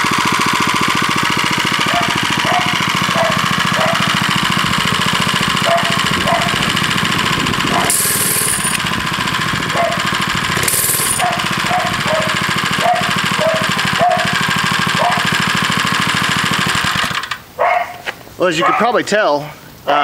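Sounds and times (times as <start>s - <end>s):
small engine running steadily: 0.0s - 17.5s.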